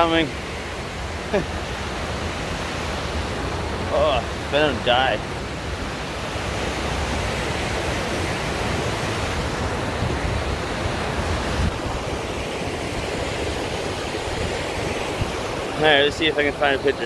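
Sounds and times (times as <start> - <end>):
heavy rain: 0.0 - 17.0
mountain stream rushing: 0.0 - 17.0
wind buffeting microphone: 0.0 - 17.0.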